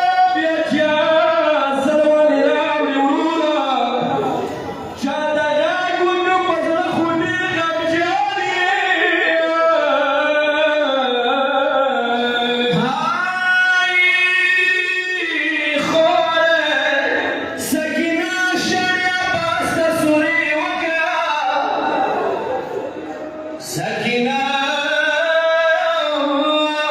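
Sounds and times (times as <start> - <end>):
person chanting a lament: 0.0 - 26.9.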